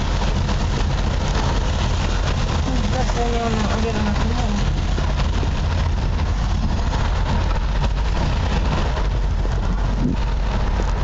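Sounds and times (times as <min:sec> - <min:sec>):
low rumble: 0:00.0 - 0:11.0
rain hissing: 0:00.0 - 0:11.0.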